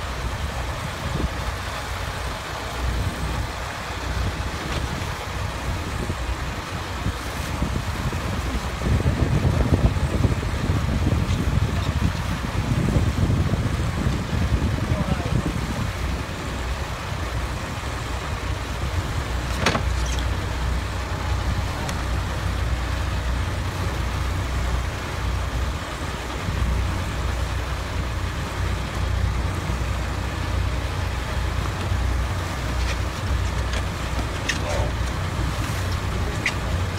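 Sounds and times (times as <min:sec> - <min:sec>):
boat engine rumble: 0:00.0 - 0:36.9
rushing water: 0:00.0 - 0:36.9
wind: 0:00.0 - 0:36.9.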